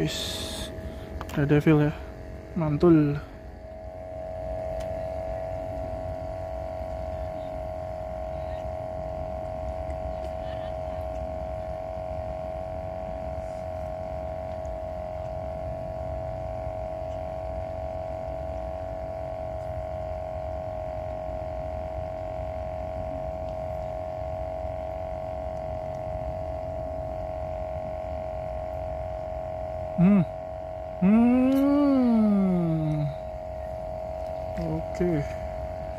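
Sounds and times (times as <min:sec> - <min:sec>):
steady machine hum: 0:00.0 - 0:35.9.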